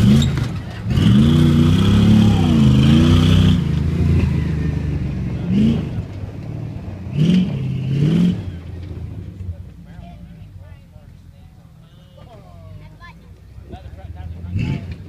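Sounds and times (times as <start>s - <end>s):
truck engine revving: 0.0s - 11.4s, 12.5s - 15.0s.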